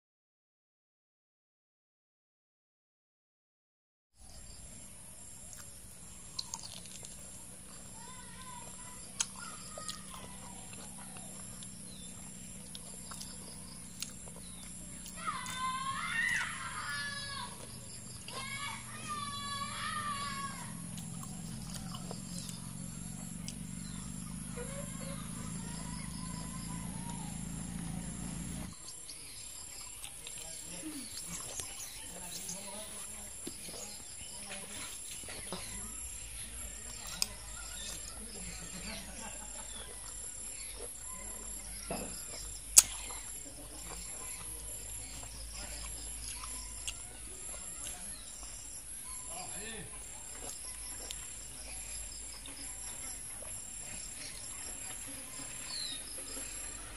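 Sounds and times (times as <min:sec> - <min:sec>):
insect chirping: 0:04.2 - 0:56.9
steady low hum: 0:04.2 - 0:56.9.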